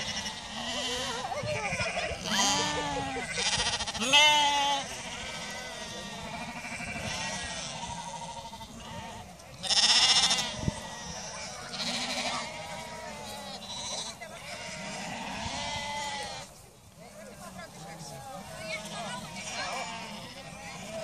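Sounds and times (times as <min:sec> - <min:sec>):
sheep bleating: 0:00.0 - 0:16.5, 0:18.6 - 0:21.0.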